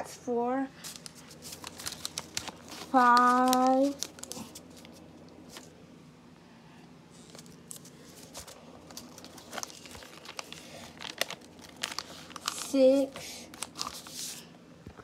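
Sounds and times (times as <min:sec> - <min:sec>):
paper being folded: 0:00.8 - 0:05.7, 0:07.2 - 0:14.5.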